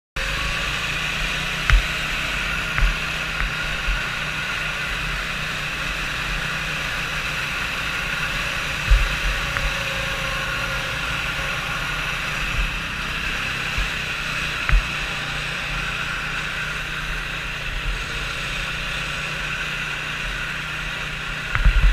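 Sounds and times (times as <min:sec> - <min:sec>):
snowmobile engine running: 0:00.2 - 0:21.9.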